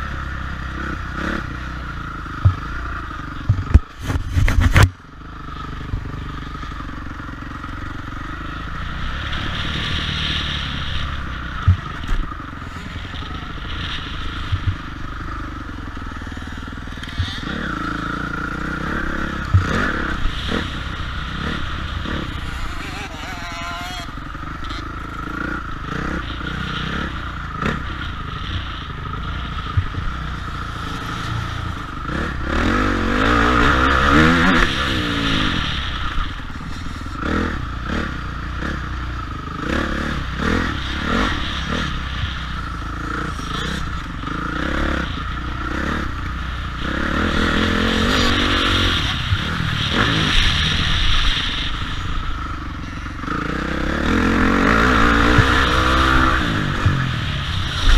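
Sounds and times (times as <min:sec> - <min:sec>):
motocross bike engine revving: 0:00.0 - 0:57.9.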